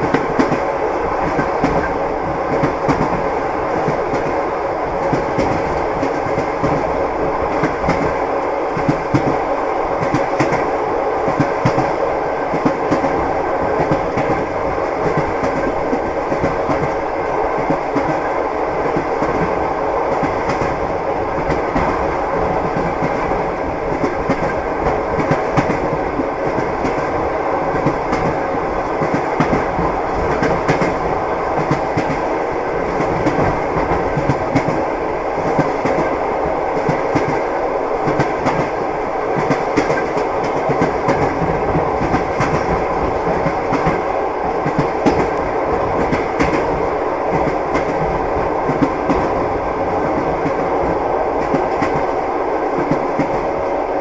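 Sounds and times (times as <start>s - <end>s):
railway carriage rumble: 0.0s - 54.0s
train wheels clacking on rails: 0.0s - 54.0s.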